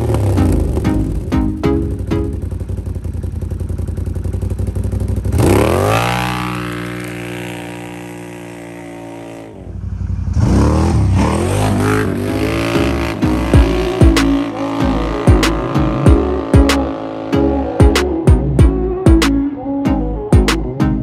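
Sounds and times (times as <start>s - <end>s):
atv accelerating hard: 0.0s - 2.7s, 4.2s - 18.6s
atv engine idling and revving: 0.0s - 21.0s.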